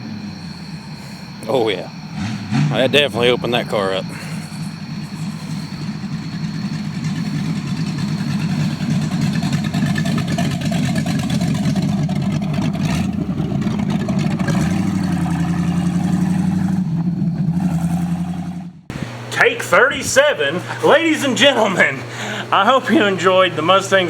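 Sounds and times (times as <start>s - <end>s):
loud car engine idling: 0.0s - 19.6s, 20.2s - 24.0s.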